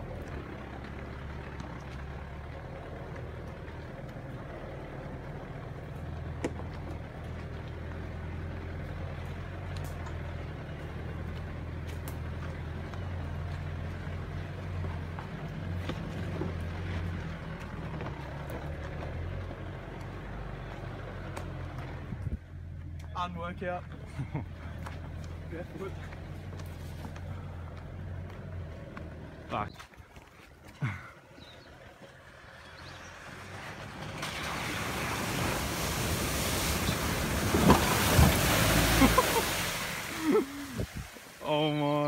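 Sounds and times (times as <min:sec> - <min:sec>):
engine running at low revs: 0:00.0 - 0:23.2, 0:23.8 - 0:42.0.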